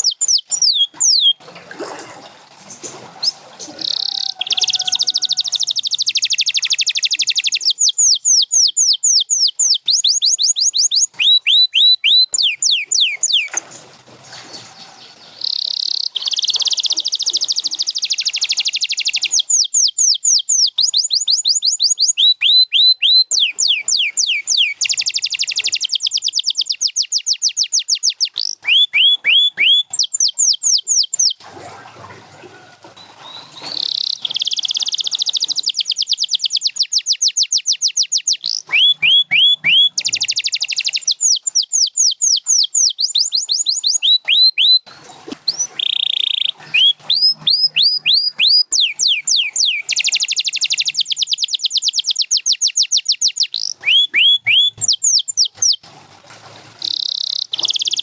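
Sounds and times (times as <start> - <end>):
canary singing: 0.0 - 1.4, 2.7 - 31.4, 32.4 - 55.8, 56.9 - 58.0.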